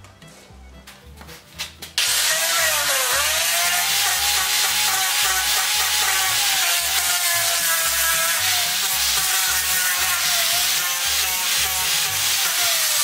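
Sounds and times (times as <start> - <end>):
angle grinder sanding wood: 2.0 - 13.0.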